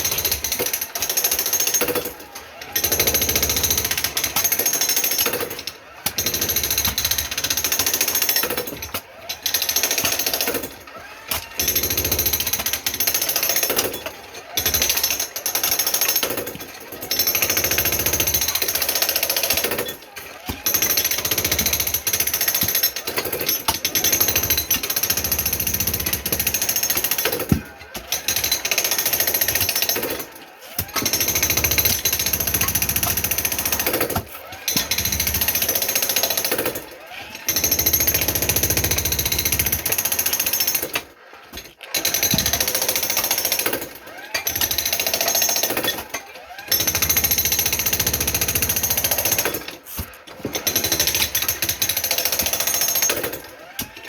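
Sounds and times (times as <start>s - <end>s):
jackhammer breaking concrete: 0.0s - 54.0s.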